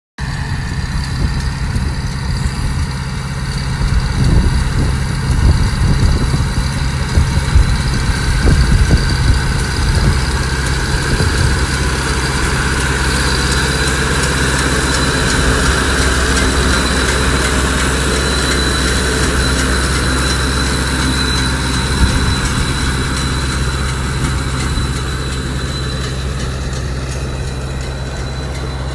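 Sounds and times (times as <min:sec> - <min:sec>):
round baler clattering: 0:00.2 - 0:28.9
tractor engine running: 0:00.2 - 0:28.9.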